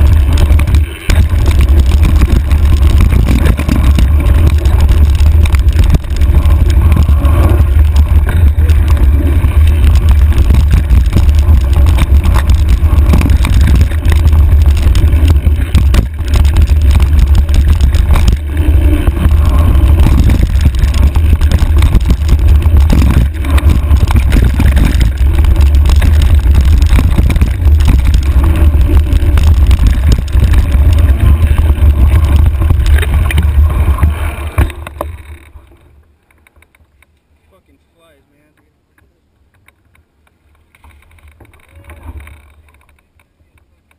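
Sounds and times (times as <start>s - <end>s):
wind buffeting camera: 0.0s - 36.7s
bike rattling over rough trail: 0.0s - 37.1s, 39.6s - 43.9s.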